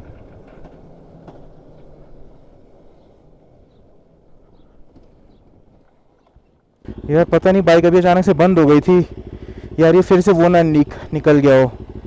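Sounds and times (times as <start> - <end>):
tyres rolling on stony road: 0.0 - 12.0.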